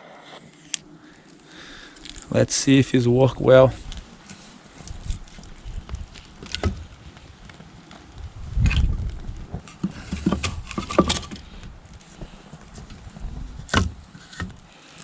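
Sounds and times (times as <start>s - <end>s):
twigs snapping: 0.5s - 2.4s, 3.8s - 15.0s.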